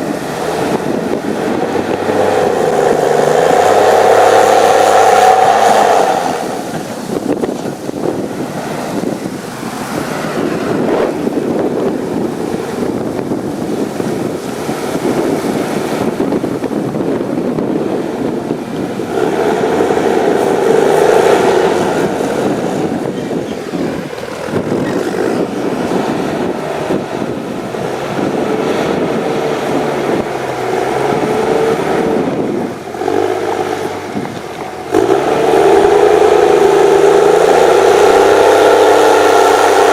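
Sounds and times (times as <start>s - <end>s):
diesel engine running: 0.0s - 39.9s
wind noise on microphone: 0.0s - 39.9s.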